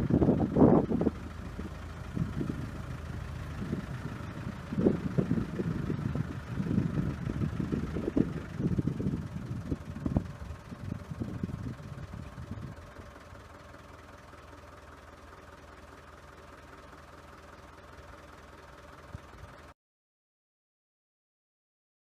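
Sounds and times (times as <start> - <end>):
vehicle engine rumbling: 0.0 - 19.8.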